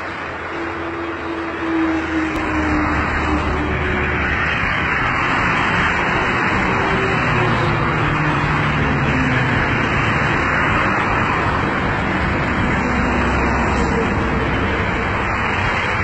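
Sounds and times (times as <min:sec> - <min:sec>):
road traffic hiss and rumble: 0:00.0 - 0:16.0.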